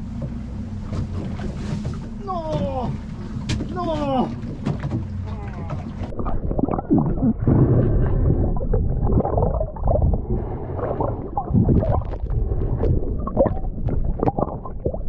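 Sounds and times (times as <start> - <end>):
underwater gurgling and sloshing: 0.0 - 15.0.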